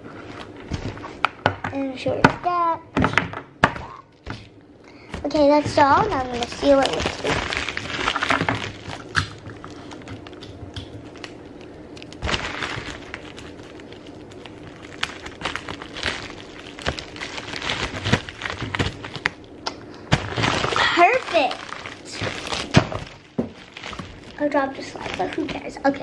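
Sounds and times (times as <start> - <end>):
packing tape scratchy burst: 2.0 - 26.0
plastic mailer bag crinkling: 3.8 - 26.0.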